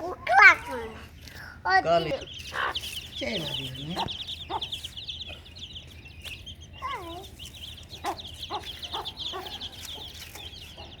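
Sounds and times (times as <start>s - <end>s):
chicks peeping: 0.0s - 11.0s
hen clucking: 1.7s - 11.0s.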